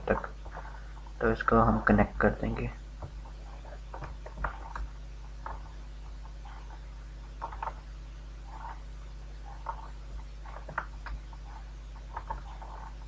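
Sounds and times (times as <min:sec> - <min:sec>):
faint ticks and rustles: 0:00.0 - 0:13.0
low electrical hum: 0:00.0 - 0:13.0.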